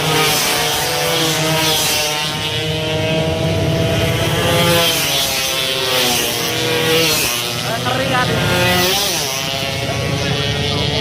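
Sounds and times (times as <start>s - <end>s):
racing motorcycles revving: 0.0s - 11.0s.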